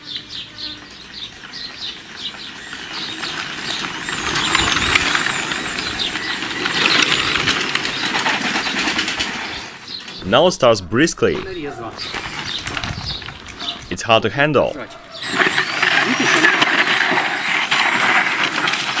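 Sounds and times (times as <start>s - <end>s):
electric bicycle whirring and rattling: 0.0s - 10.2s, 12.0s - 13.9s, 15.0s - 19.0s.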